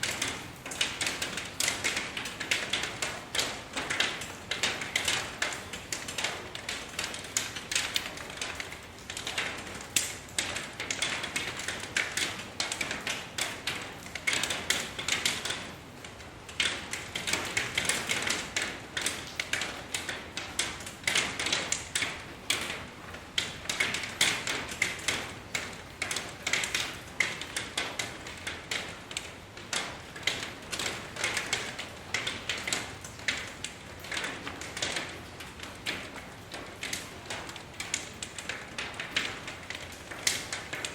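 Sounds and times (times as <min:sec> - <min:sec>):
rain drops ticking on a surface: 0:00.0 - 0:40.9.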